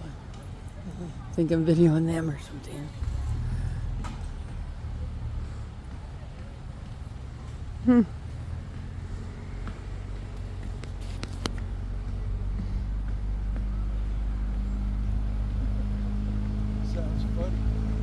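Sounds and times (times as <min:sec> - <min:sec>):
motor engine running at low revs: 0:00.0 - 0:18.0.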